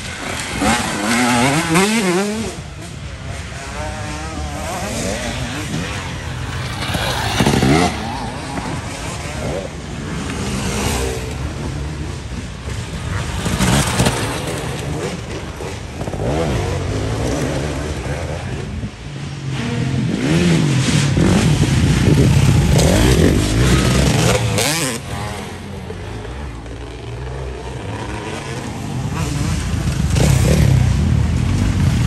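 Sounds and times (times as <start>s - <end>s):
dirt bike engines revving: 0.0s - 32.0s.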